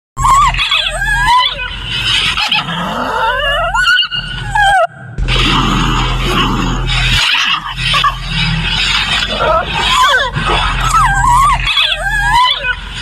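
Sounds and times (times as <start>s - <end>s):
puppy yelping: 0.2s - 6.1s, 6.9s - 13.0s
puppy growling: 0.2s - 13.0s.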